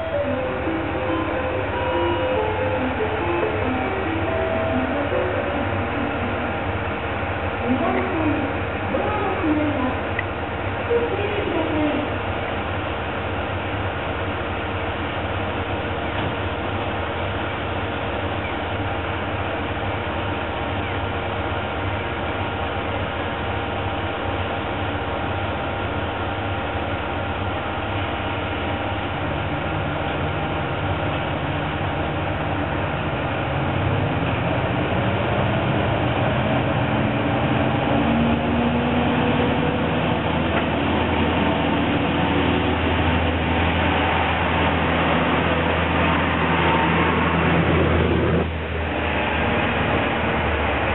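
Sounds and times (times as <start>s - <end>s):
diesel railcar engine revving: 0.0s - 50.9s.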